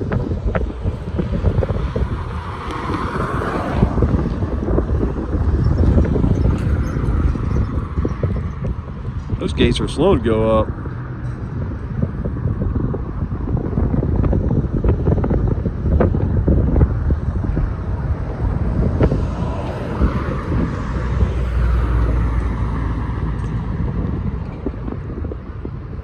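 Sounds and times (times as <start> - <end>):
road traffic rumble: 0.0 - 26.0
vehicle passing: 0.0 - 26.0
wind buffeting microphone: 0.0 - 26.0.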